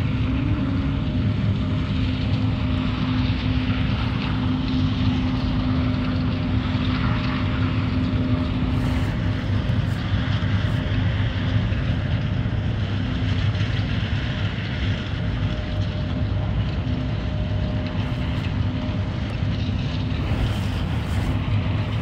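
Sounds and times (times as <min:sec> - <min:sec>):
machinery low hum: 0:00.0 - 0:22.0.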